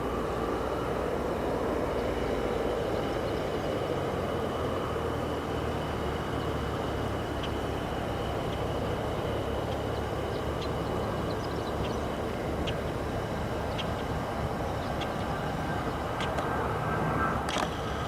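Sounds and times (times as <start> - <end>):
aircraft engine running: 0.0 - 18.0.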